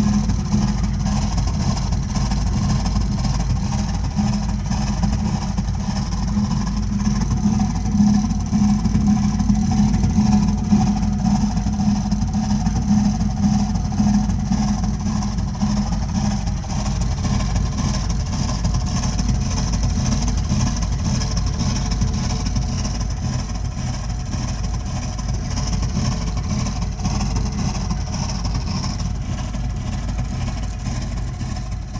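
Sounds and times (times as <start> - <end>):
boiler droning and humming: 0.0 - 31.9.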